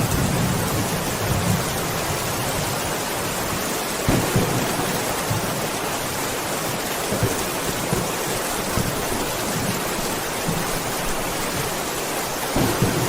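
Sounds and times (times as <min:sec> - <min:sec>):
steady rain hiss: 0:00.0 - 0:13.0
thunder rumbling: 0:00.0 - 0:13.0.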